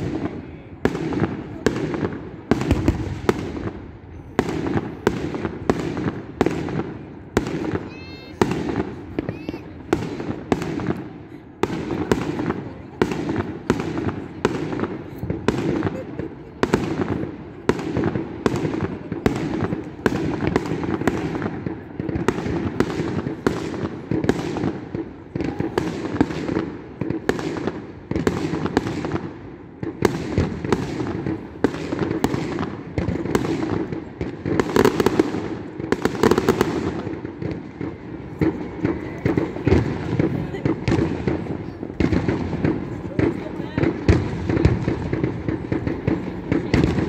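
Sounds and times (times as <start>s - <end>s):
fireworks crackling: 0.0s - 47.0s
fireworks exploding: 0.0s - 47.0s.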